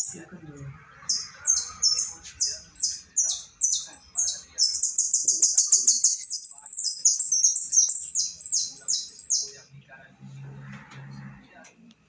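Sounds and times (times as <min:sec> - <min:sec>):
songbird singing and trilling: 0:00.0 - 0:10.0.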